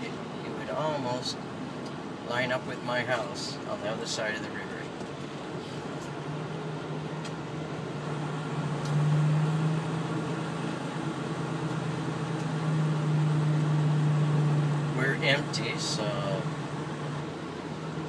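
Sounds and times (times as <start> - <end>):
diesel truck engine hum: 0.0 - 18.0
road and cab noise: 0.0 - 18.0.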